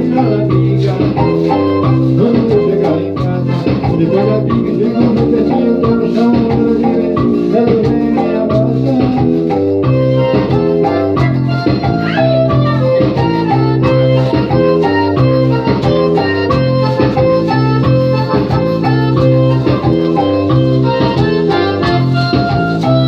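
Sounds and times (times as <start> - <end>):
electronic keyboard music: 0.0 - 23.0.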